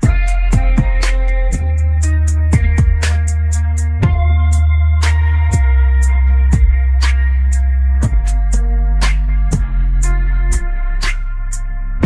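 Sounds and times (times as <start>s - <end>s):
background music with bass: 0.0s - 12.0s.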